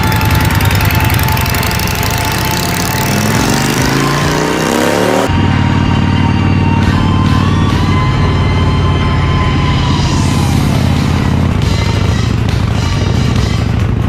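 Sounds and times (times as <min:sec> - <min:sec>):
vehicle engine running under load: 0:00.0 - 0:14.0.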